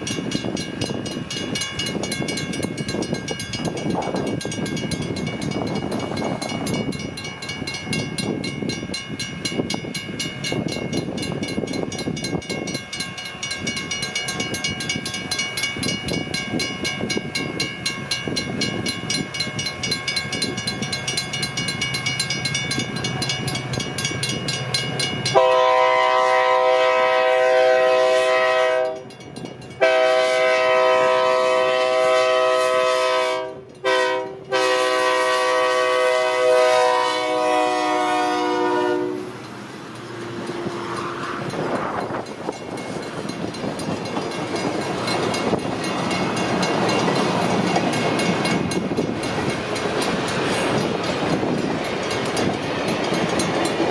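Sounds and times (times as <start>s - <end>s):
steam locomotive exhaust beats: 0.0s - 53.9s.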